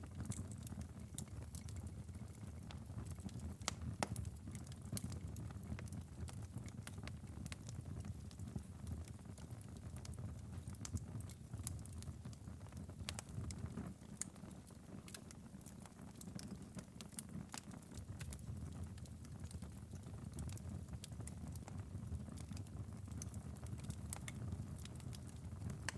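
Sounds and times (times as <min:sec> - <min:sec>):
fire crackling and popping: 0:00.0 - 0:25.9.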